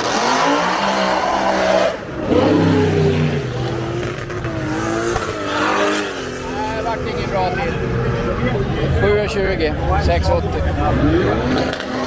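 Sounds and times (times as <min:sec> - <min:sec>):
drag racing car engine accelerating: 0:00.0 - 0:12.0.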